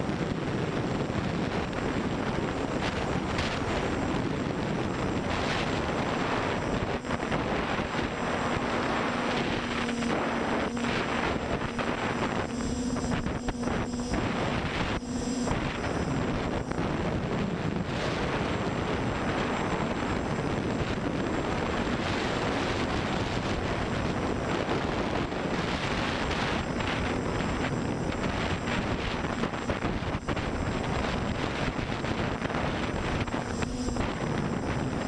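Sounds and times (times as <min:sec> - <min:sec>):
drone motors droning: 0:00.0 - 0:35.0
faint hum: 0:00.0 - 0:35.0
wind rushing over microphone: 0:00.0 - 0:35.0.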